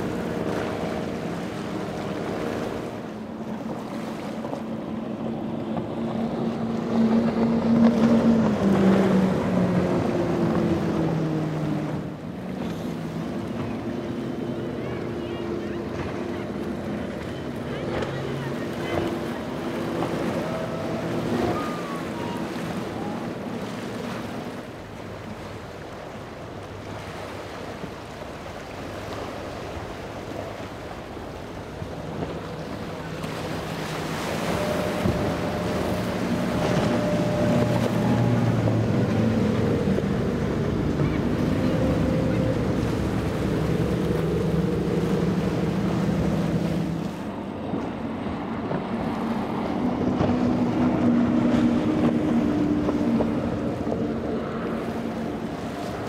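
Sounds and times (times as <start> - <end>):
boat engine drone: 0.0 - 56.0
rush of spray and water: 0.0 - 56.0.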